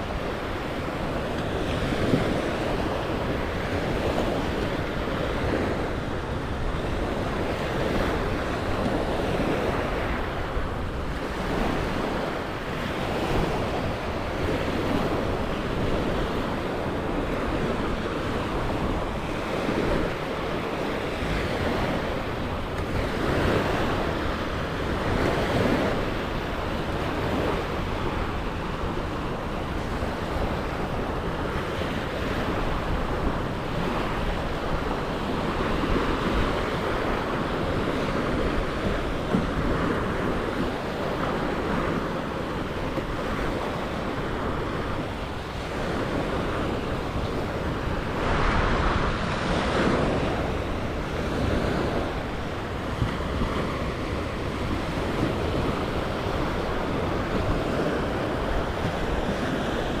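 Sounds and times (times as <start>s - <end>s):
surf washing onto beach: 0.0s - 60.0s
wind buffeting microphone: 0.0s - 60.0s.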